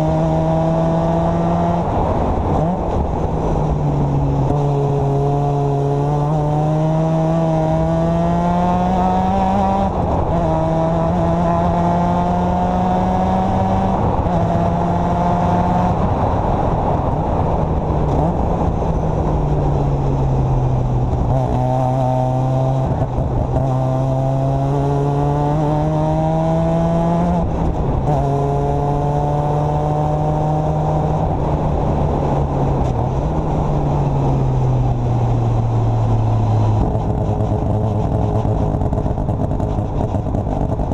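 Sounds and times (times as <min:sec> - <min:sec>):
race car rotary engine: 0:00.0 - 0:40.9
wind and road noise: 0:00.0 - 0:40.9.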